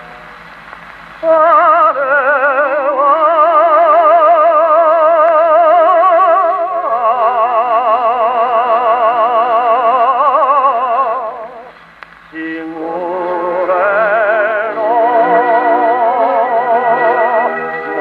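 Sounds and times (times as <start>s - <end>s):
tenor singing with orchestra: 1.2s - 18.0s.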